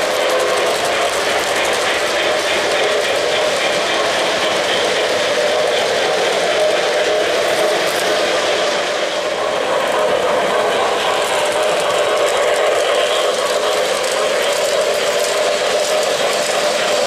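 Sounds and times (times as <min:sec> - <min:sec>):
model trains running: 0:00.0 - 0:17.0.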